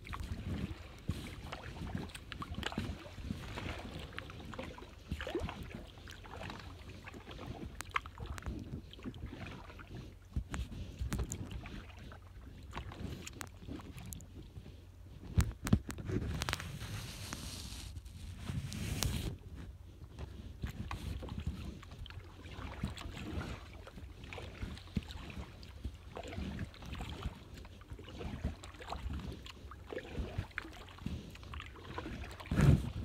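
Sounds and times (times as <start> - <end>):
paddle splashing water: 0.0 - 33.0
wind rumble on microphone: 0.0 - 33.0.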